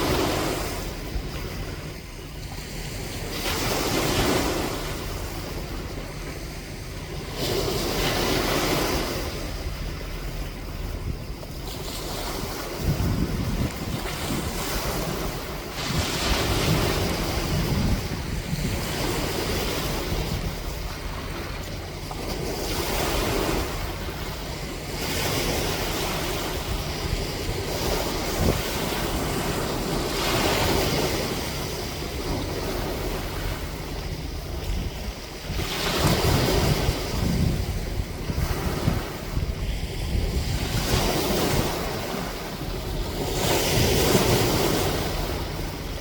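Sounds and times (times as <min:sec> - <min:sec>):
ocean waves washing in: 0:00.0 - 0:46.0
wind buffeting microphone: 0:00.0 - 0:46.0.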